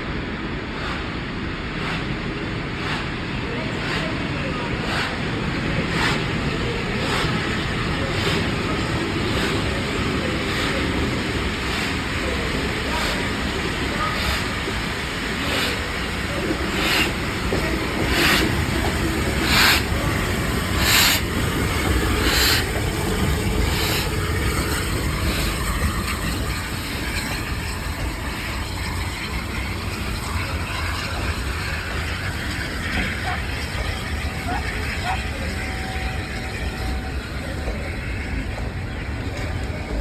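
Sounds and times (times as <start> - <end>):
low rumble of train: 0.0 - 40.0
steam locomotive chuffing: 0.0 - 40.0.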